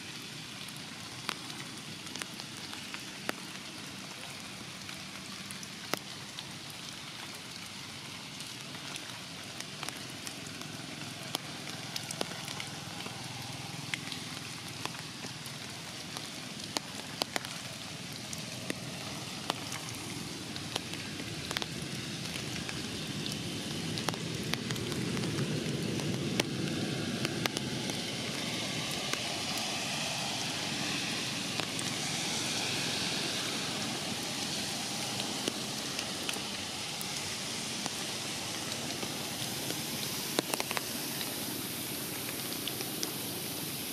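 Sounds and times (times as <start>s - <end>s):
rain falling on leaves: 0.0s - 43.9s
sharp water drips: 0.0s - 43.9s.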